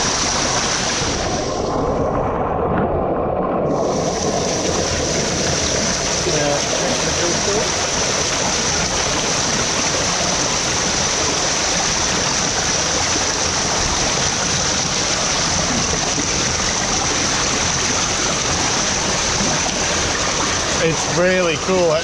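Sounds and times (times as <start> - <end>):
waterfall pouring: 0.0 - 22.0.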